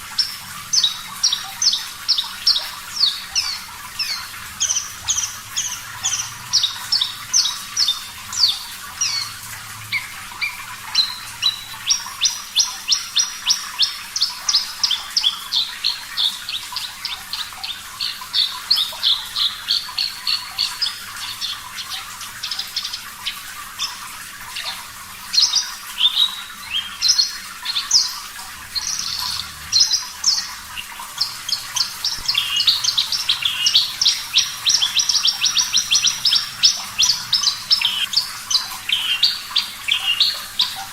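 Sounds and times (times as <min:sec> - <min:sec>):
bird singing rapid sharp notes: 0:00.0 - 0:40.9
faint running water: 0:00.0 - 0:40.9.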